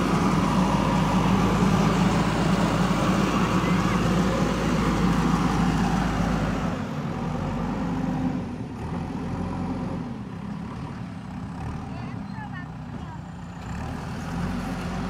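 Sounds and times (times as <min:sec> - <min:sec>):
diesel engine of backhoe driving: 0:00.0 - 0:15.0.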